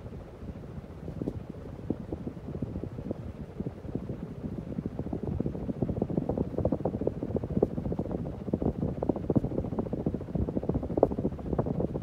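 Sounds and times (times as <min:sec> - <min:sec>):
ceiling fan running: 0:00.0 - 0:12.0
wind buffeting microphone: 0:01.0 - 0:12.0.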